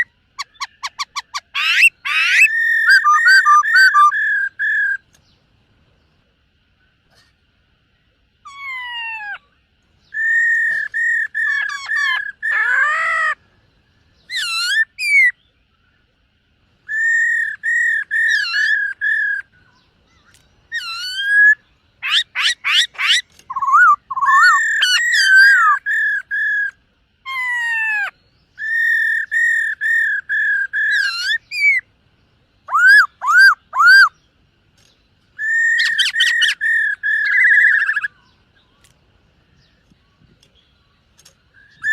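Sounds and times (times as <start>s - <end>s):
bird singing whistled notes: 0.0s - 5.4s, 7.9s - 16.2s, 16.8s - 41.9s.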